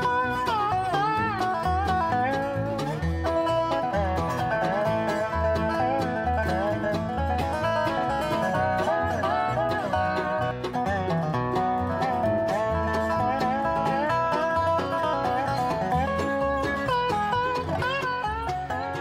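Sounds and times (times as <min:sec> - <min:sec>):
banjo-led bluegrass music: 0:00.0 - 0:19.0.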